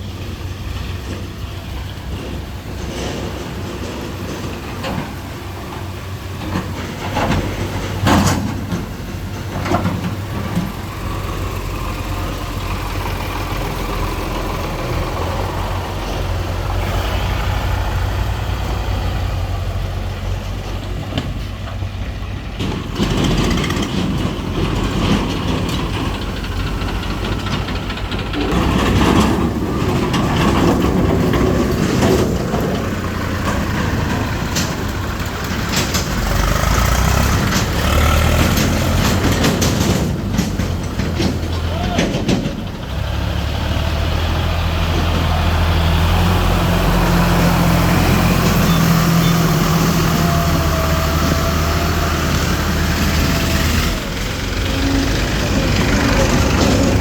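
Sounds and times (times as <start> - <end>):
diesel tractor engine running: 0.0 - 57.0
sharp knocks and rattles: 0.5 - 57.0.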